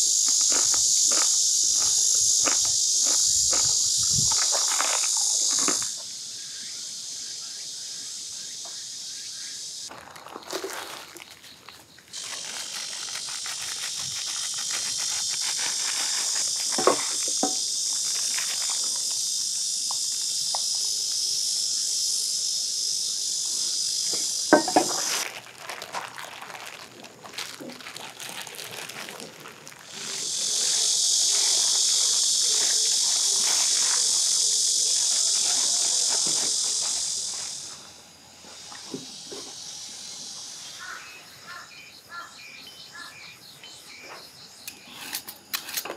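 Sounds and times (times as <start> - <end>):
cicadas droning: 0.0 - 45.9.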